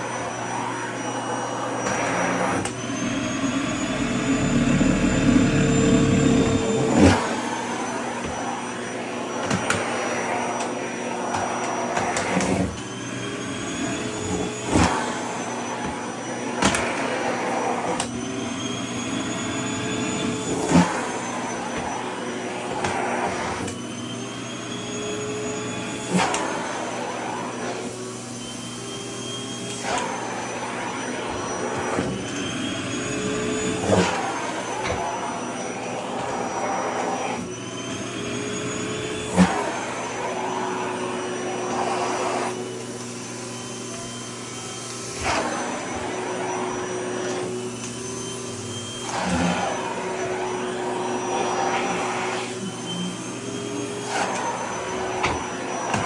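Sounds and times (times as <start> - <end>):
vacuum cleaner motor whine: 0.0 - 56.0.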